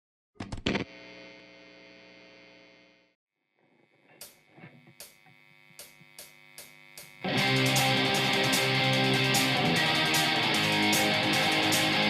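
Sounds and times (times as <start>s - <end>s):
buzzing hum: 0.4s - 12.0s
high steady whine: 0.7s - 12.0s.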